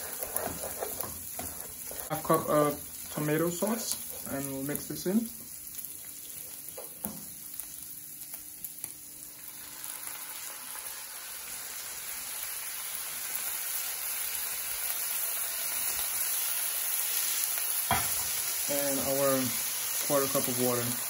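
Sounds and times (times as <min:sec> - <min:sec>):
ground beef sizzling in skillet: 0:00.0 - 0:21.0.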